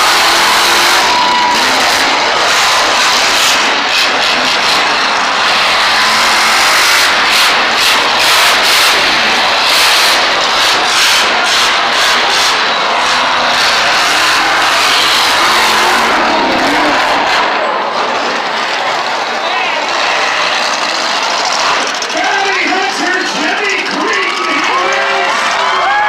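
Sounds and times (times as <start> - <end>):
truck engine revving: 0.0 - 25.8.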